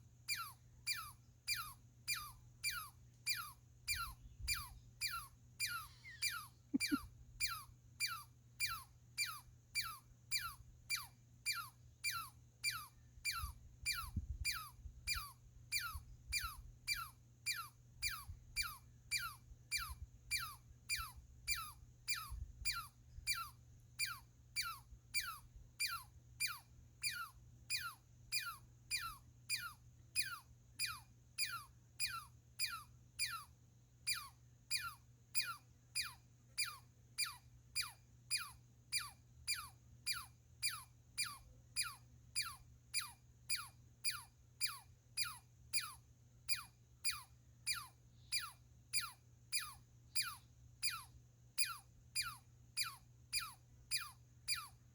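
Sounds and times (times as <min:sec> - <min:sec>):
squirrel chirping: 0:00.3 - 0:54.8.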